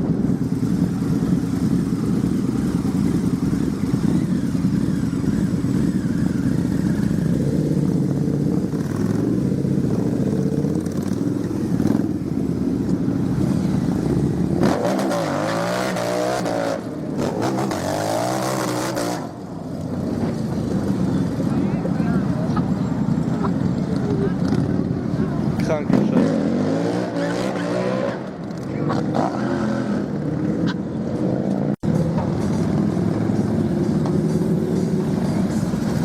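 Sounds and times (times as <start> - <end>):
motorcycle engine rumbling and revving: 0.0 - 36.0.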